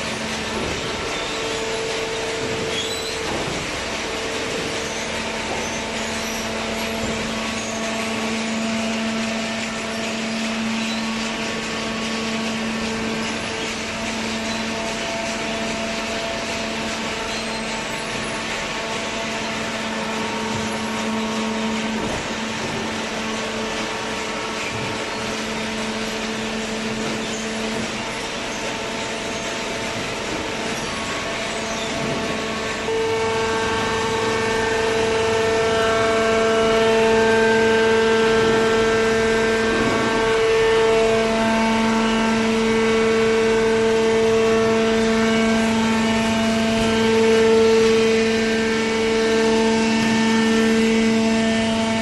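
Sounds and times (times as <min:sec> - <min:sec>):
hydraulic baler humming: 0:00.0 - 0:52.0
machinery noise: 0:00.0 - 0:52.0.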